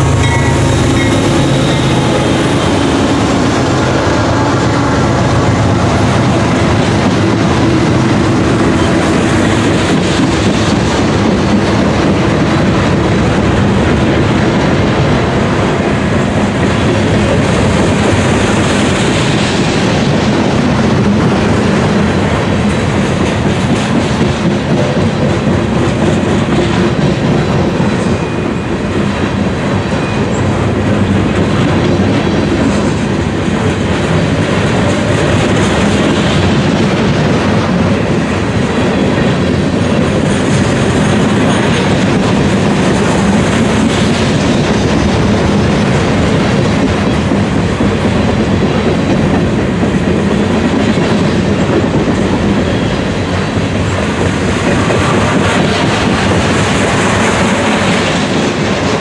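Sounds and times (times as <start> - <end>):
freight train cars rumbling and clattering: 0.0 - 59.0.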